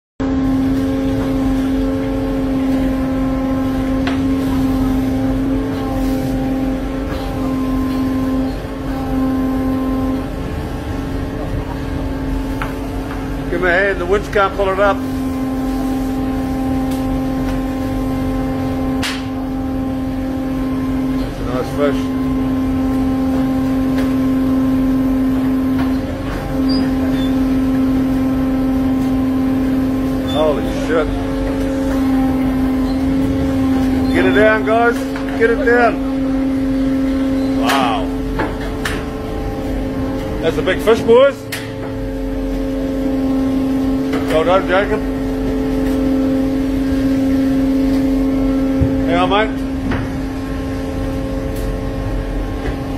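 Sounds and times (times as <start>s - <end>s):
deck machinery humming: 0.2s - 52.9s.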